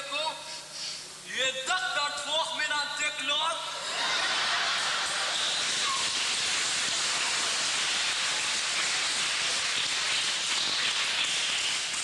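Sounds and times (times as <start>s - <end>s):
steady hiss: 0.3s - 2.5s, 3.9s - 12.0s.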